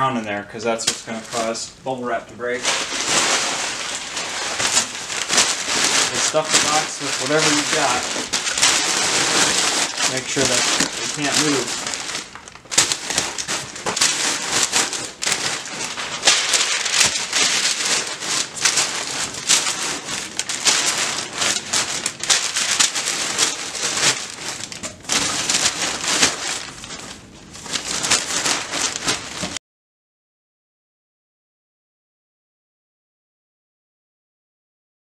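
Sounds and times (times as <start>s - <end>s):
paper and bubble wrap crinkling: 0.0s - 29.6s.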